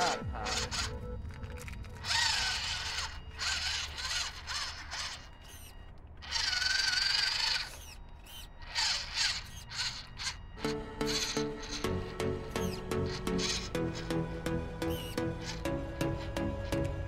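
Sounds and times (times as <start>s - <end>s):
toy truck electric motor whining: 0.0s - 17.0s.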